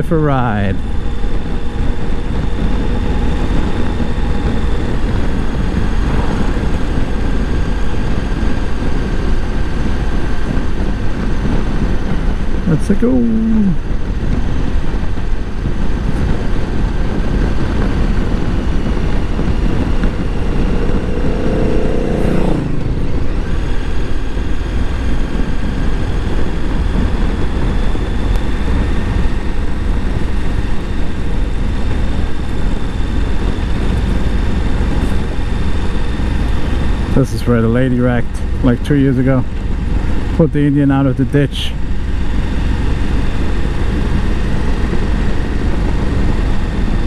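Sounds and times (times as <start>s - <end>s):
motorcycle engine revving: 0.0s - 47.0s
wind on microphone: 0.6s - 47.0s.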